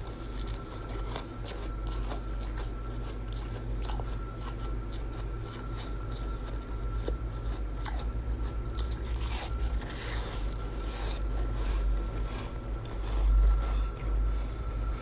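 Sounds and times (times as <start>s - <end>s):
ice crunching while chewed: 0.0s - 15.0s
steady low hum: 0.0s - 15.0s.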